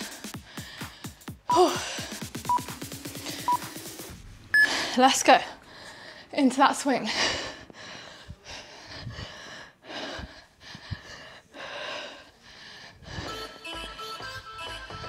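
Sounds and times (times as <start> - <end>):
woman breathing hard: 0.0 - 6.4, 7.0 - 13.6.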